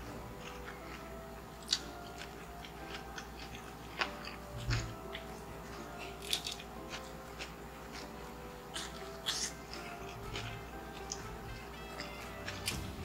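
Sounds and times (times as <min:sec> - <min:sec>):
soft background music: 0:00.0 - 0:13.0
chewing clicks and crackles: 0:00.4 - 0:12.8.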